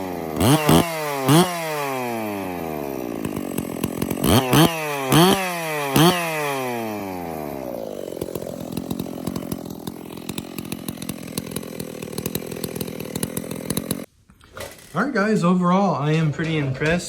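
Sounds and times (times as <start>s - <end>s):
chainsaw revving and idling: 0.0s - 14.1s.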